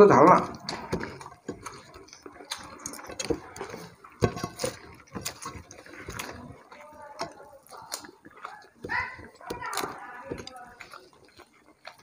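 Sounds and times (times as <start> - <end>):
wet mixing and chewing: 0.0 - 12.0.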